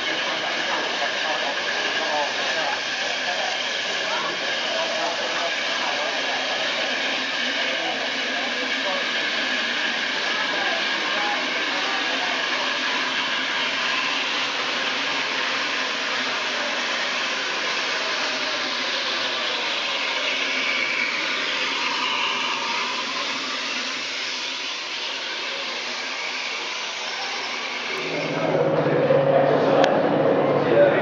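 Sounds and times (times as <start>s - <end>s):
steam hissing from a locomotive: 0.0s - 30.3s.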